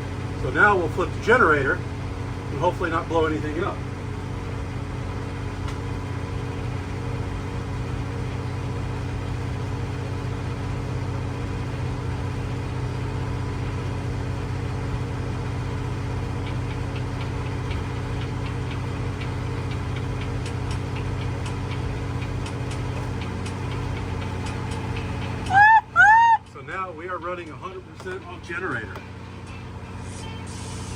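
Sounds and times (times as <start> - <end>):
diesel generator humming: 0.0 - 30.9.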